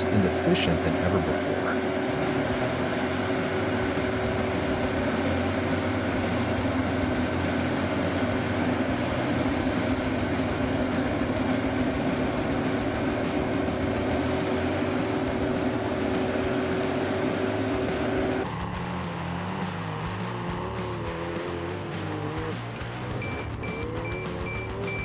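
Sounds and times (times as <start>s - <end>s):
heavy machine engine humming: 0.0s - 25.0s.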